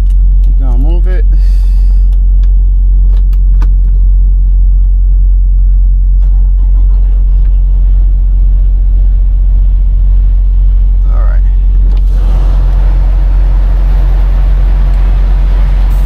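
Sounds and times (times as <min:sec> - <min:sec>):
diesel truck engine drone: 0:00.0 - 0:16.0.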